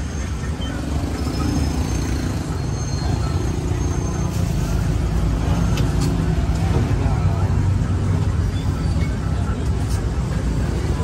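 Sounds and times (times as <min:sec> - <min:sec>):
low rumble of motor traffic: 0:00.0 - 0:11.0.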